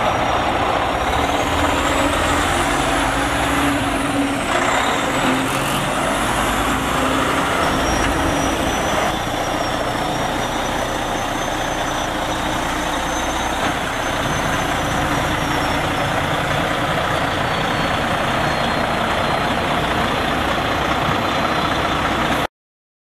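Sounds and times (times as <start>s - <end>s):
diesel truck engine idling: 0.0s - 22.5s.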